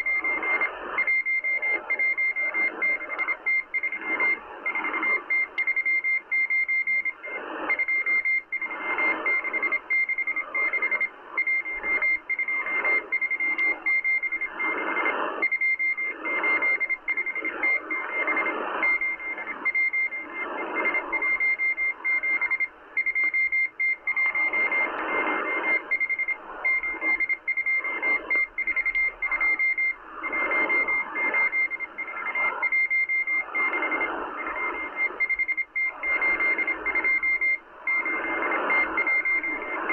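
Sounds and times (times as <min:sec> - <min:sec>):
shortwave radio hiss: 0:00.0 - 0:06.3, 0:07.0 - 0:39.9
morse code tone: 0:00.0 - 0:39.9.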